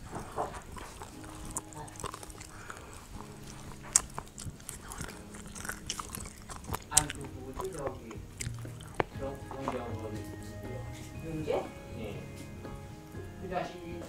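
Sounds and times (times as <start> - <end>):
close chewing mouth sounds: 0.0 - 11.3.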